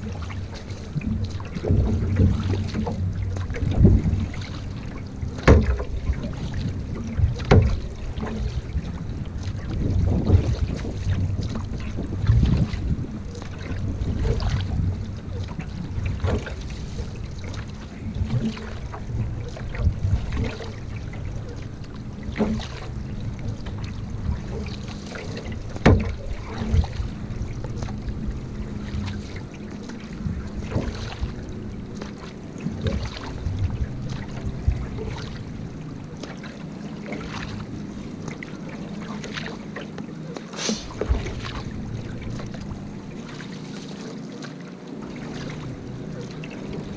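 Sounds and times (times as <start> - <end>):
wind rumble on microphone: 0.0 - 40.0, 40.8 - 43.7
paddle strokes splashing water: 0.0 - 46.9.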